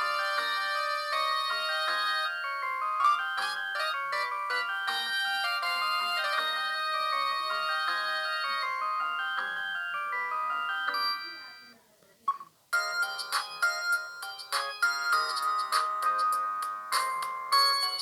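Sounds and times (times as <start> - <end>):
mobile phone electronic ringtone: 0.0 - 18.0.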